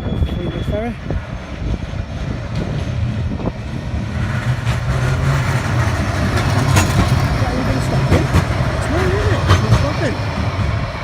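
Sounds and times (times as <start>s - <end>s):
tram passing: 0.0s - 11.0s
wind buffeting microphone: 0.0s - 11.0s.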